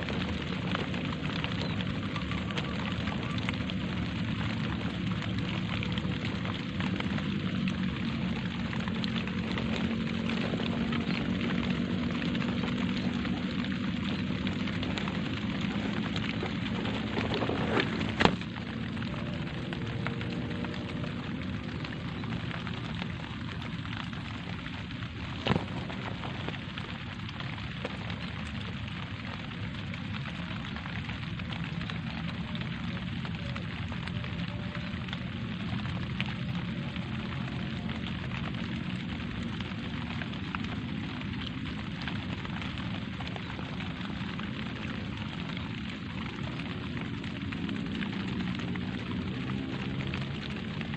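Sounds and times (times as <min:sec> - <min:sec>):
low rumble: 0:00.0 - 0:49.2
light rain falling: 0:00.0 - 0:50.9.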